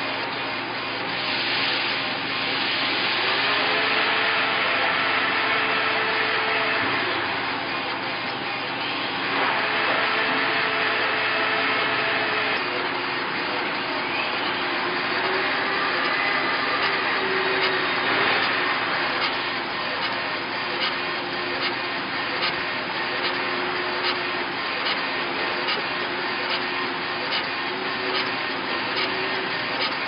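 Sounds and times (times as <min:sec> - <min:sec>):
laser engraver airy rush: 0:01.1 - 0:30.0
drive motors whining: 0:02.4 - 0:30.0.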